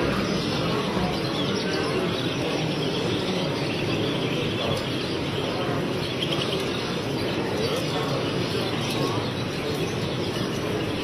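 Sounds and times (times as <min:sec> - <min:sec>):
background din of a hall: 0:00.0 - 0:11.0
small birds chirping: 0:00.0 - 0:11.0.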